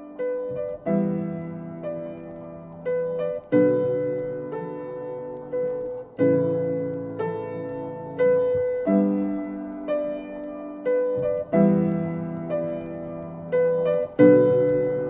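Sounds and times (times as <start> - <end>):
solo piano piece: 0.0 - 15.0.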